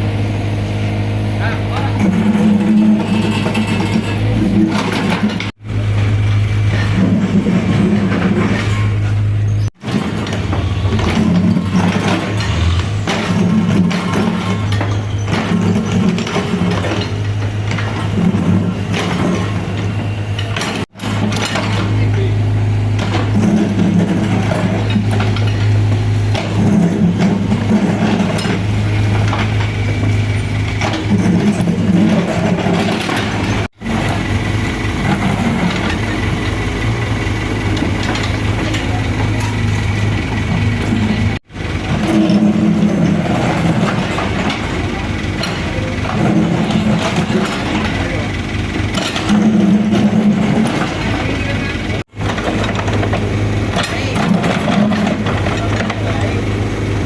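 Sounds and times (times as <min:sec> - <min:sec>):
excavator diesel engine running: 0:00.0 - 0:57.0
faint clanking of machinery: 0:01.4 - 0:57.0.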